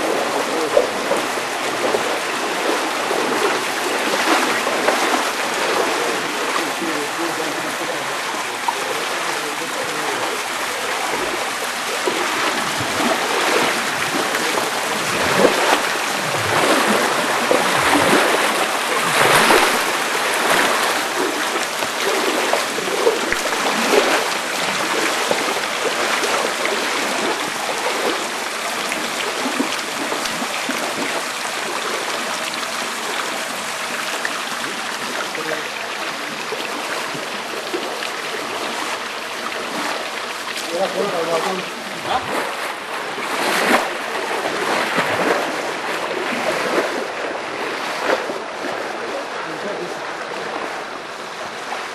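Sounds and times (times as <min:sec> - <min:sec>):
water rushing and splashing: 0:00.0 - 0:51.9.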